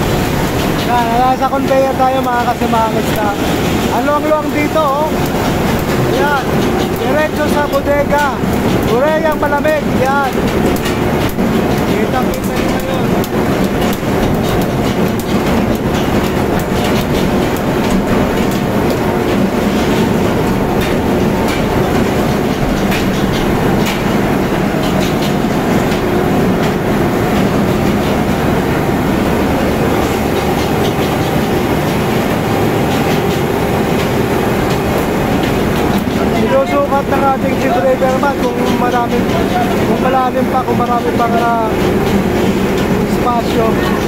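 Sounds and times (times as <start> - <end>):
conveyor machinery humming: 0.0 - 44.0.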